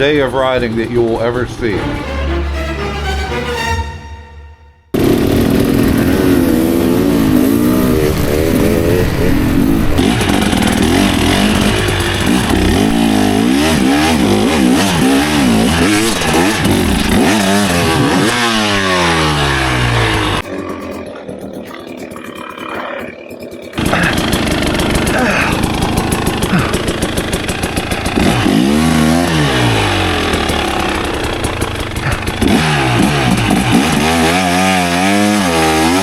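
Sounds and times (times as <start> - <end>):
dirt bike engines revving: 0.0 - 2.9, 5.0 - 36.0.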